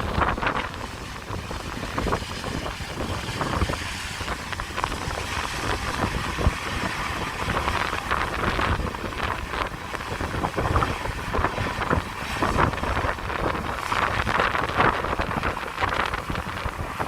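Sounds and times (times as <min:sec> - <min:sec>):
combine harvesters rumbling: 0:00.0 - 0:17.0
wind buffeting microphone: 0:00.0 - 0:17.0.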